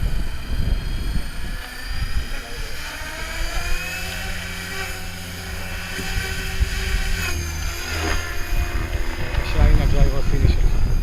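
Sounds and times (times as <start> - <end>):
rc helicopter high whine: 0.0 - 11.0.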